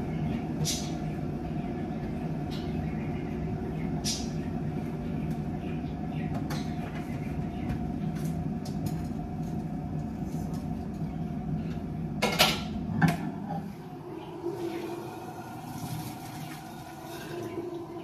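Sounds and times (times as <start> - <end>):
kettle heating water: 0.0 - 18.0.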